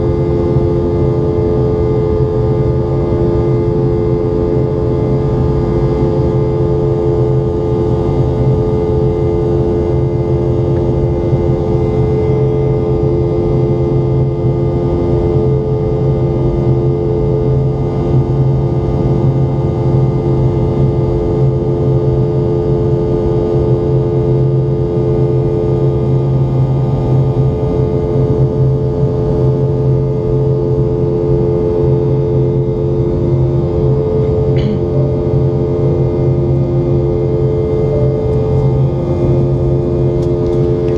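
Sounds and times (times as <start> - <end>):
jet engines humming in cabin: 0.0 - 40.9.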